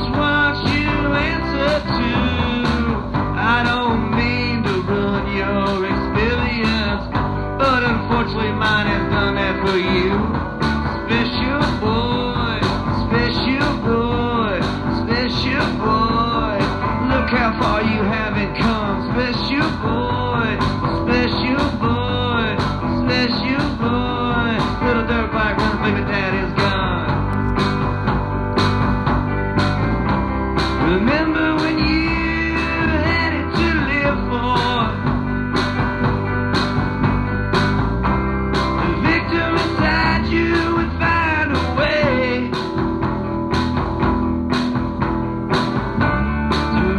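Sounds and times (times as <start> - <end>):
bass: 0.0 - 46.9
drum beat: 0.0 - 46.9
lead guitar bending notes: 0.0 - 46.9.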